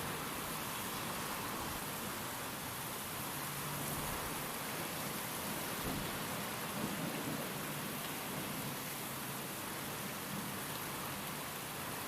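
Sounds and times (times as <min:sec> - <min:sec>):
rain with wind: 0:00.0 - 0:12.0.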